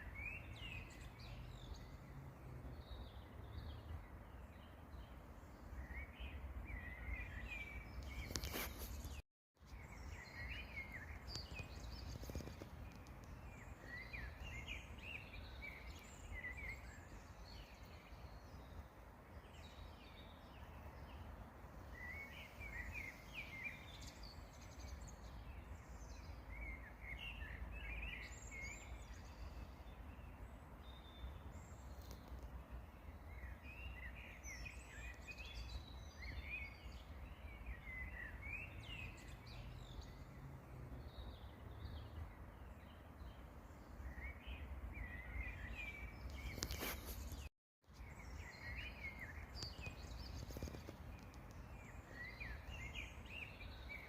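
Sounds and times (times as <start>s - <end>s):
songbirds twittering: 0.0s - 54.0s.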